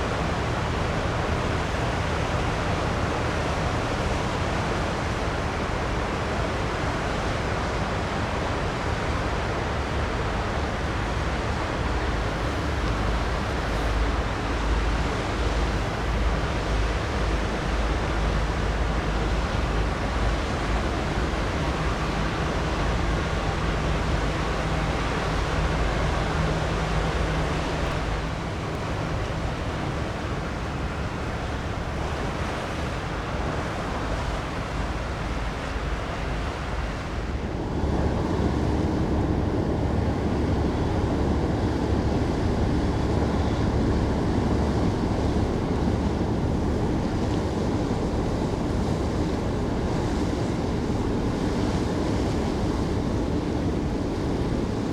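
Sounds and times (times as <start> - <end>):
ship engines droning: 0.0 - 54.9.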